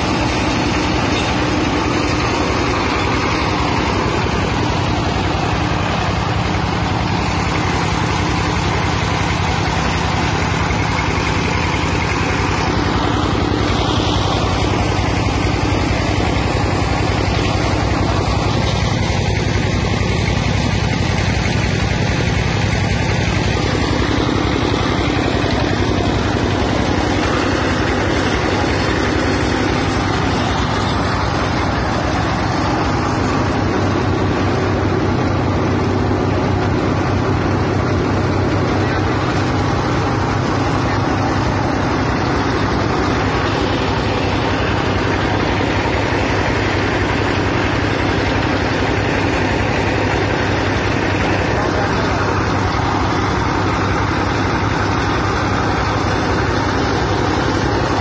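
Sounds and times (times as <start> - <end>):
grinding mill mechanical din: 0.0 - 58.0.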